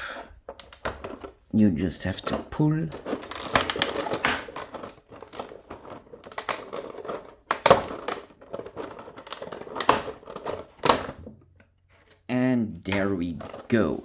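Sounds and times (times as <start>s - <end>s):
packaging scraping: 0.0s - 14.0s
packaging crinkling and rustling: 0.4s - 14.0s.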